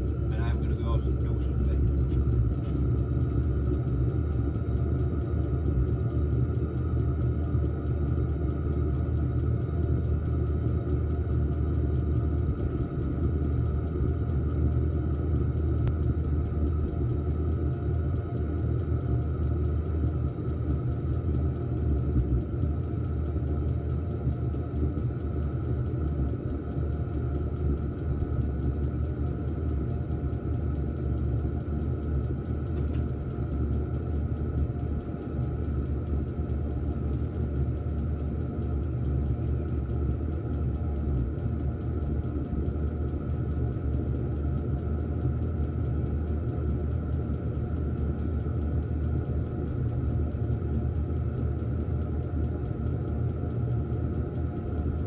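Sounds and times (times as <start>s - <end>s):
fan whine: 0.0s - 55.0s
heater combustion rumble: 0.0s - 55.0s.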